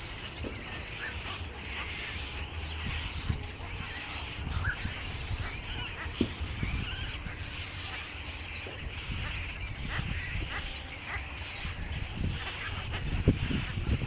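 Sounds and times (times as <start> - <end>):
birds chirping and calling: 0.0 - 14.0
steady low rumble: 0.0 - 14.0.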